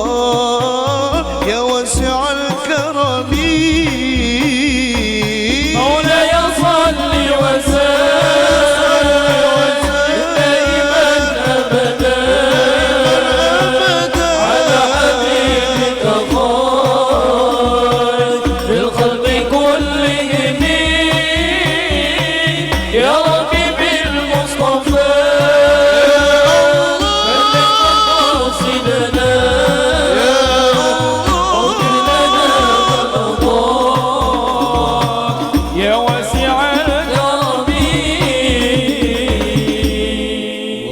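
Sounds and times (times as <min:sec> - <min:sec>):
driving drum rhythm: 0:00.0 - 0:40.4
melismatic singing: 0:00.0 - 0:40.9.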